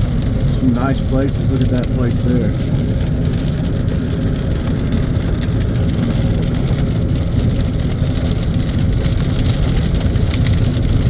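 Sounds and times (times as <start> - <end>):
car engine and tyre hum: 0.0 - 11.0
rain hissing: 0.0 - 11.0.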